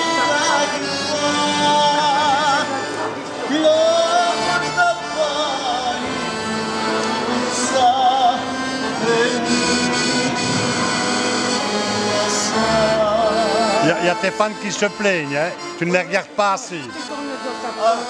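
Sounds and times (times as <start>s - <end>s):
man singing with vibrato: 0.0s - 17.0s
piano accordion playing: 0.0s - 18.0s.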